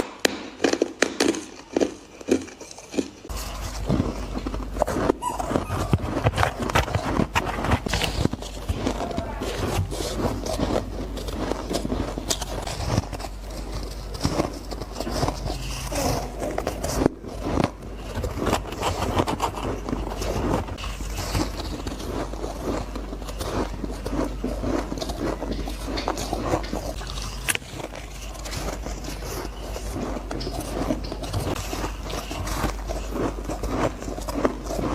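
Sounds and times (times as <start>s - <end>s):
crunching and chewing ice: 0.0s - 34.9s.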